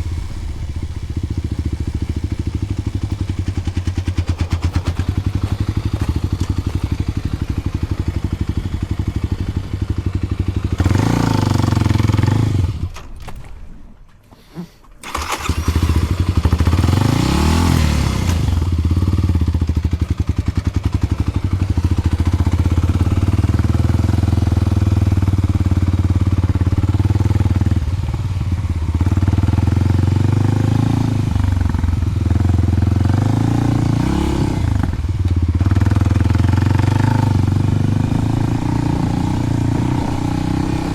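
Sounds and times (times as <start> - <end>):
motorcycle engine idling and revving: 0.0 - 13.1, 15.0 - 40.9.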